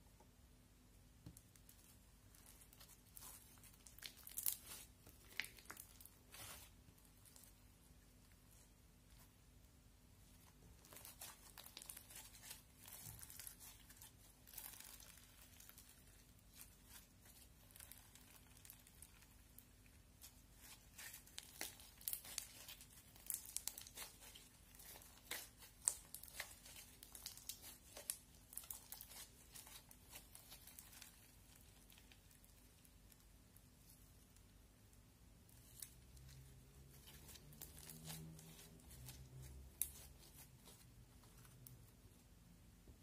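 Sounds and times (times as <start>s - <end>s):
foam slime crackling: 1.6s - 9.3s, 10.4s - 33.3s, 35.5s - 41.7s.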